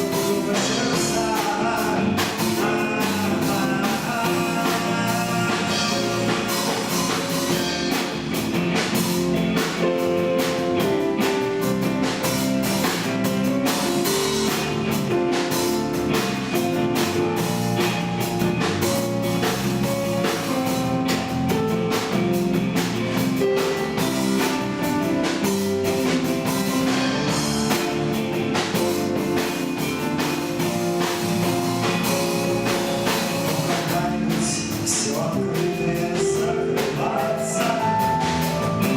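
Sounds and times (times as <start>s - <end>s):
drum kit beat: 0.0s - 38.9s
guitar: 0.0s - 38.9s.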